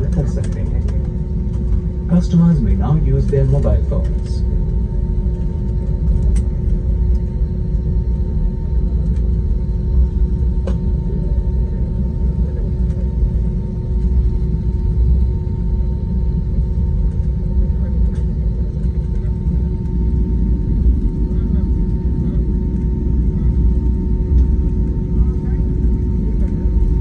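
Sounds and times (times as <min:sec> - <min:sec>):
airliner engines rumbling: 0:00.0 - 0:27.0.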